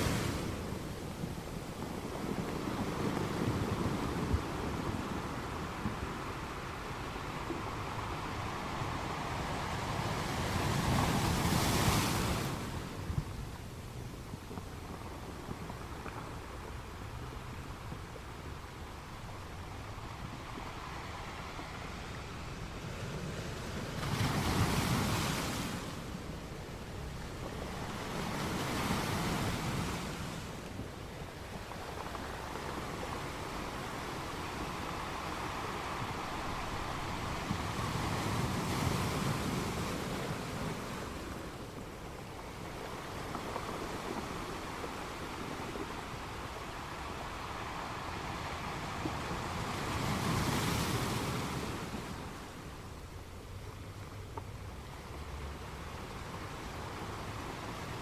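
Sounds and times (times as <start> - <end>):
steady wash of surf: 0.0 - 58.0
waves breaking against rocks: 0.0 - 58.0.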